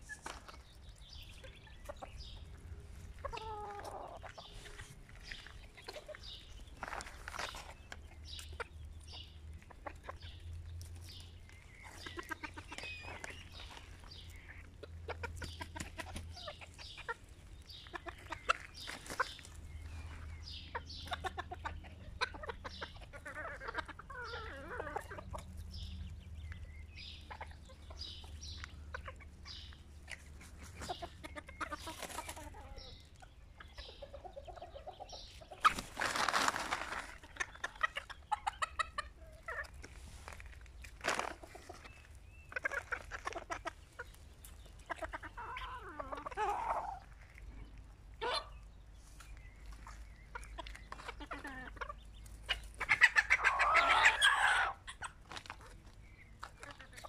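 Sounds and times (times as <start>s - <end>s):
chickens clucking: 0.0s - 57.0s
chickens pecking at gravel: 0.0s - 57.0s.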